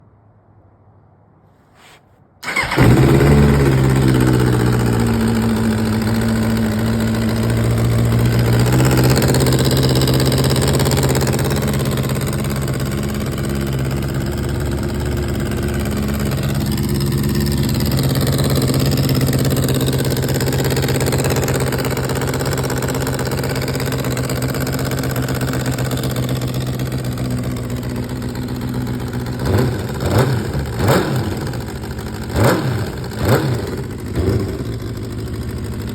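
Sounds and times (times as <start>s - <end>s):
motorcycle engine idling and revving: 2.4s - 35.9s.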